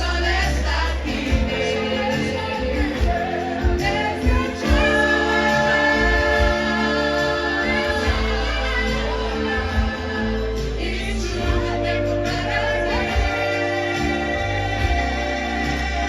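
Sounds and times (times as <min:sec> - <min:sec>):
steady bass accompaniment: 0:00.0 - 0:16.0
woman singing: 0:00.0 - 0:16.0.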